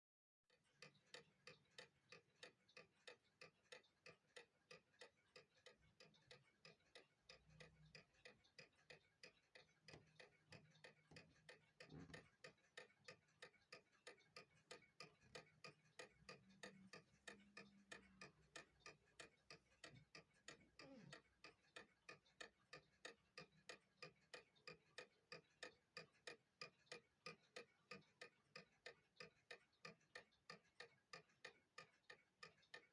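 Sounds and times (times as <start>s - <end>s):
mechanical clock ticking: 0.5s - 32.9s.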